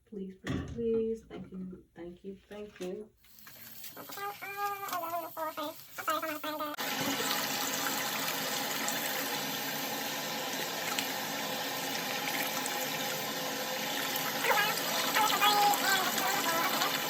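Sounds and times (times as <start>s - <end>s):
tap water running into sink: 3.2s - 17.0s.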